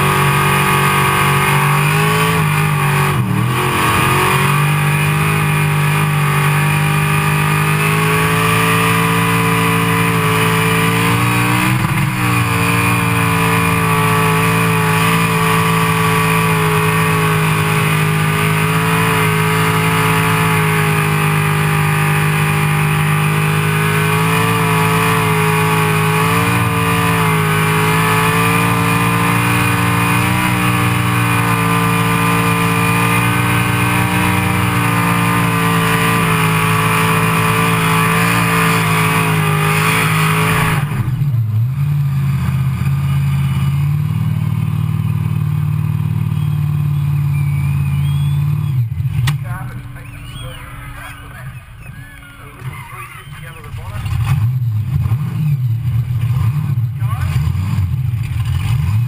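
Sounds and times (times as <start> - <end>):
car engine revving high: 0.0 - 59.0.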